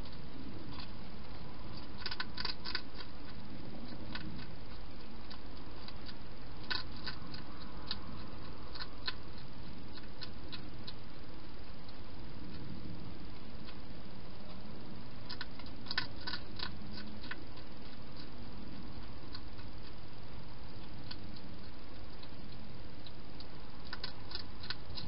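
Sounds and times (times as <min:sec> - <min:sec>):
hedgehog eating clicks and crunches: 0:00.0 - 0:25.0.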